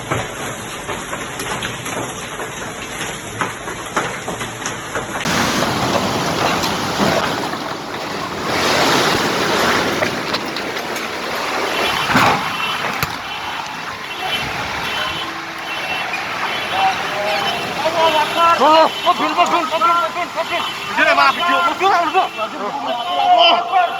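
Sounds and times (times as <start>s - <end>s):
rain and hail rushing: 0.0s - 23.9s.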